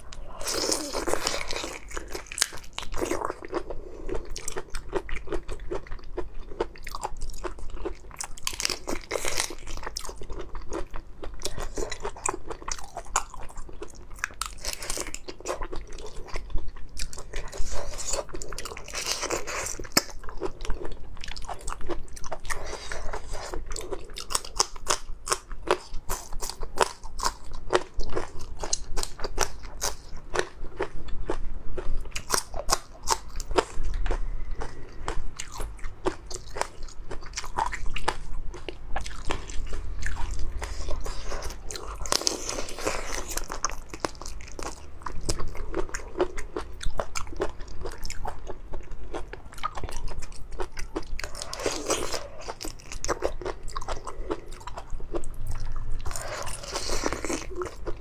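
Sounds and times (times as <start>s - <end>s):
crunching of prawn shell: 0.1s - 16.4s, 17.0s - 58.0s.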